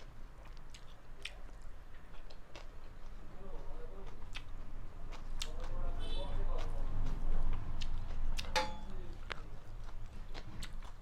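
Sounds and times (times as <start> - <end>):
person chewing food: 0.0 - 5.8, 6.5 - 11.0.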